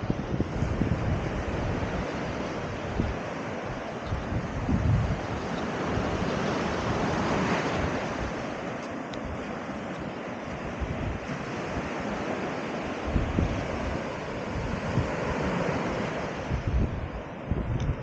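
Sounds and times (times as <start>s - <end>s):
sea waves washing on shore: 0.0s - 18.0s
wind gusting on microphone: 0.0s - 18.0s.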